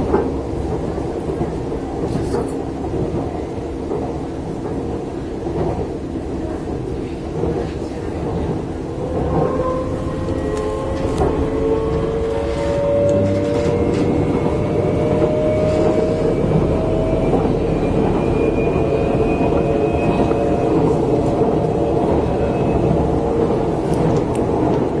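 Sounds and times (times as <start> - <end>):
train rumble and rattle on track: 0.0 - 25.0.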